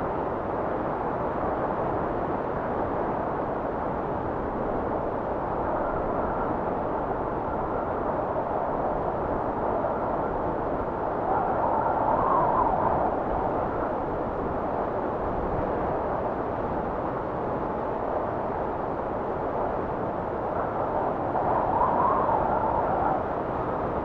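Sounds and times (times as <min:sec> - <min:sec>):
blizzard wind rushing: 0:00.0 - 0:24.0.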